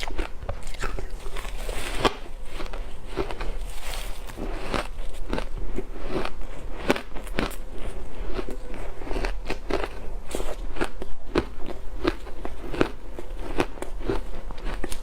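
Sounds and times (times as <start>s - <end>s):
person crunching ice: 0.0s - 15.0s.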